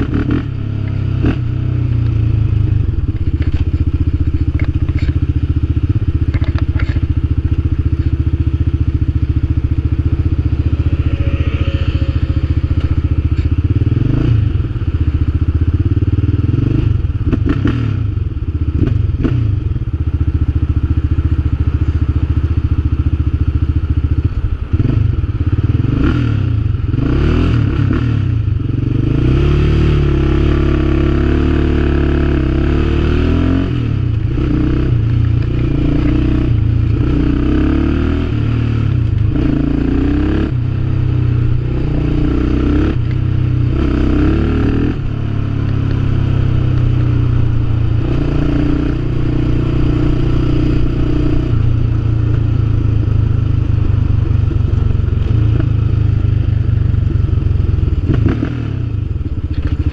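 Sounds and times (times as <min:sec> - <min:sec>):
quad bike engine revving: 0:00.0 - 0:19.7, 0:24.7 - 0:56.1, 0:57.5 - 0:59.9.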